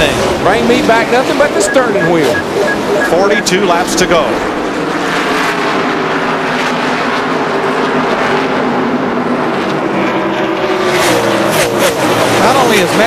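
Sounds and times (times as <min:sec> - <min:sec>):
racing car engines roaring: 0:00.0 - 0:13.0.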